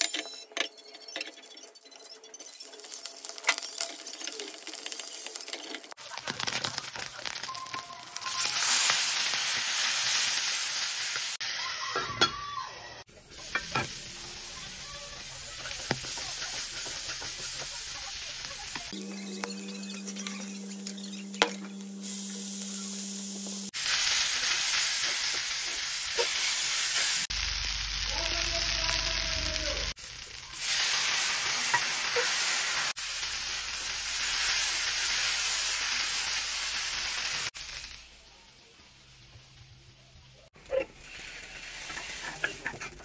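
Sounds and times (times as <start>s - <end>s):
oil sizzling in a wok: 2.4s - 43.0s.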